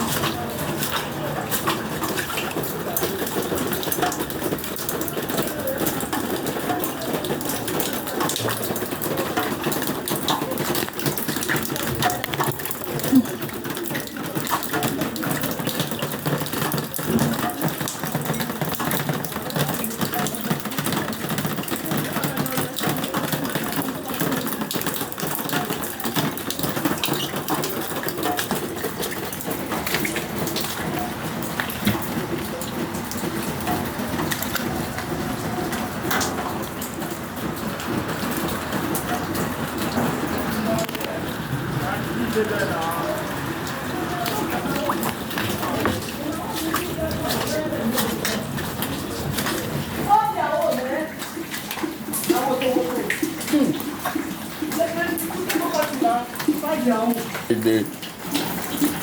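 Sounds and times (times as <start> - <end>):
heavy rain pouring: 0.0 - 59.0
water splashing and running: 0.0 - 59.0.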